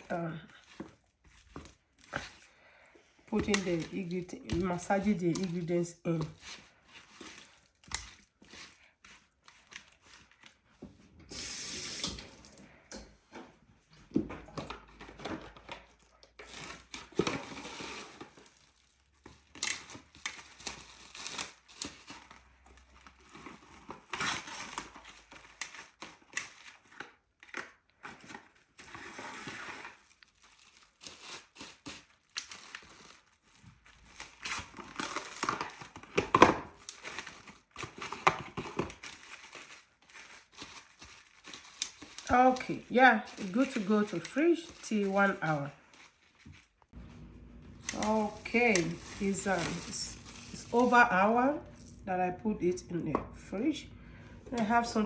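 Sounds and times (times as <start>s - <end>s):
food wrap rustling and crinkling: 0.0s - 52.1s.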